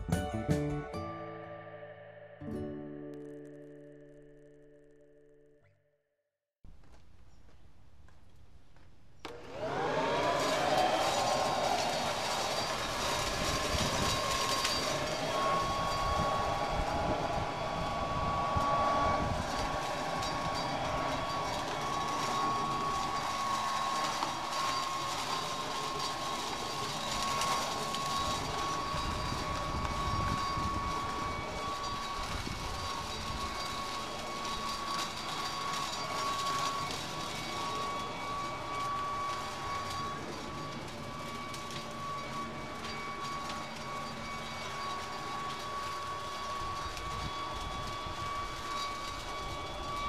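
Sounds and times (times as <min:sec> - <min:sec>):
electric leaf blower running: 0:09.3 - 0:50.0.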